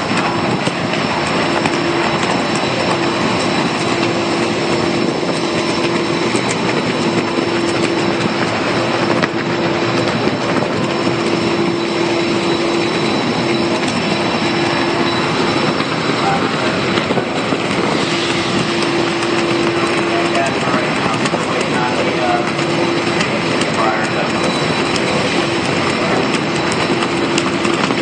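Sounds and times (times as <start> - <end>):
machinery hum: 0.0 - 28.0
strong wind roaring: 0.0 - 28.0.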